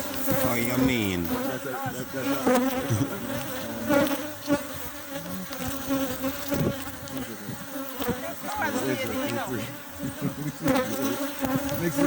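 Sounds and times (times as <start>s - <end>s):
honeybees buzzing: 0.0s - 12.0s
single bee flying past: 0.0s - 12.0s.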